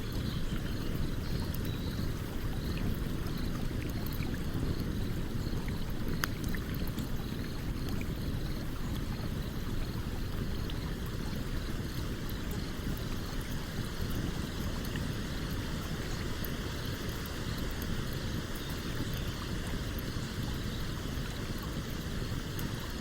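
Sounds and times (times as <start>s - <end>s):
campfire crackling and popping: 0.1s - 22.9s.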